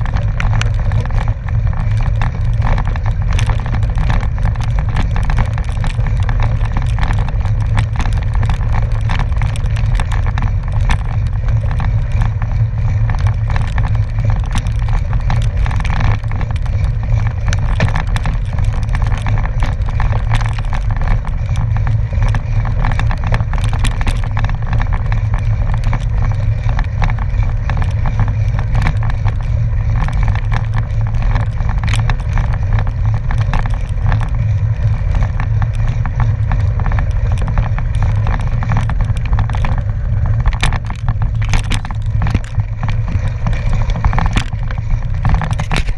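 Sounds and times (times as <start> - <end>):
bike tyre rumble: 0.0 - 45.9
gravel ticks and rattles: 0.0 - 45.9
wind on microphone: 0.0 - 45.9.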